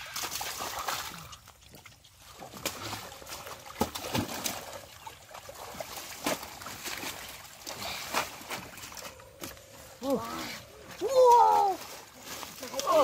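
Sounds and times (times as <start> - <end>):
sharp water splashes: 0.0 - 9.9, 10.5 - 13.0
muddy water sloshing: 0.0 - 13.0.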